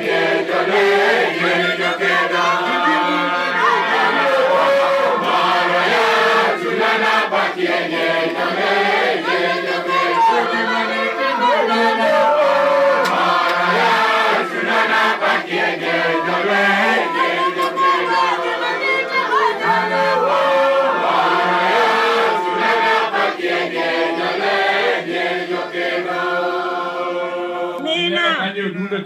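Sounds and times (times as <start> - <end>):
congregation singing: 0.0 - 27.8.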